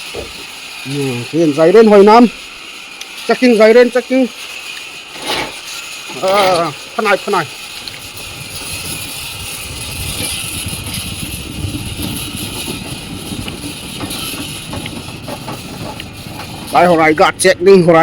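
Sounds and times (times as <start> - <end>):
machine engine running with hiss: 0.0 - 18.0.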